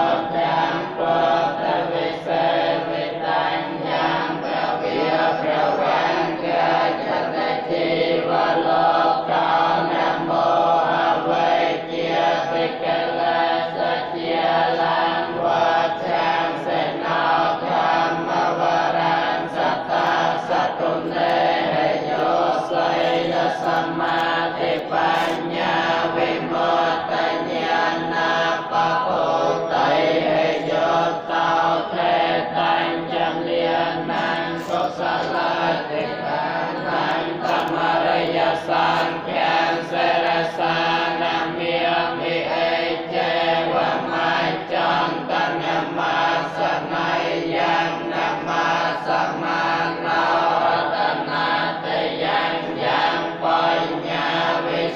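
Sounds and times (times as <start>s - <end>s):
men chanting in a group: 0.0s - 54.9s.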